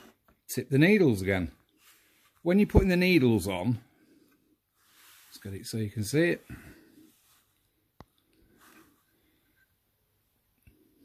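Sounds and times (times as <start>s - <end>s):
soft handling noise: 0.0s - 11.0s.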